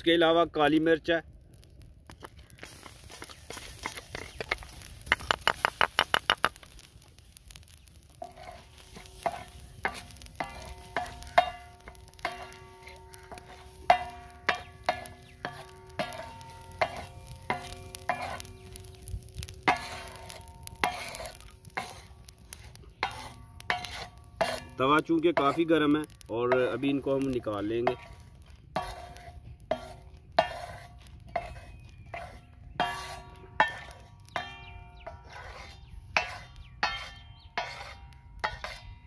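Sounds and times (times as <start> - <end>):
spatula scraping spices on iron plate: 2.6 - 6.5, 8.1 - 18.9, 19.6 - 25.8, 26.4 - 39.0.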